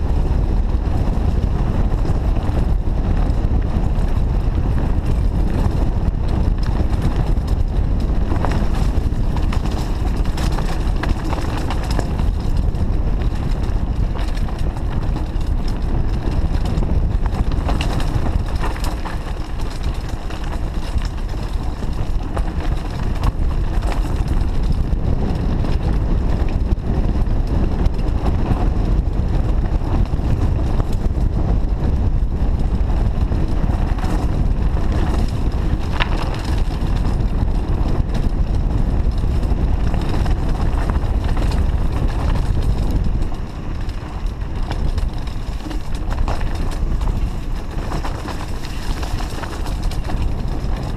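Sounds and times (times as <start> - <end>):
bike rattles and chain slap: 0.0 - 50.9
wind buffeting microphone: 0.0 - 50.9
tyres rolling over stones: 0.1 - 26.5, 32.6 - 50.9.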